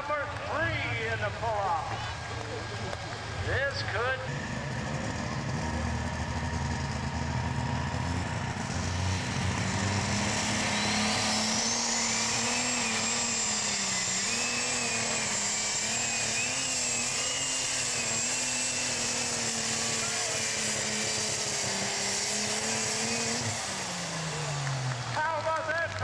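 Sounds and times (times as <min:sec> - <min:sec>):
high turbocharger whine: 0:00.0 - 0:26.0
tractor engine running hard: 0:00.0 - 0:26.0.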